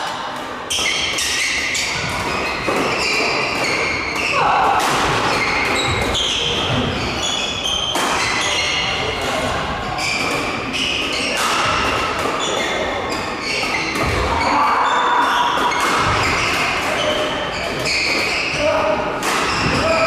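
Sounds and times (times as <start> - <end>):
rackets hitting shuttlecock: 0.4 - 6.8, 7.6 - 14.4, 15.2 - 18.6, 19.2 - 20.0
shoes squeaking on floor: 0.7 - 4.4, 5.3 - 18.8.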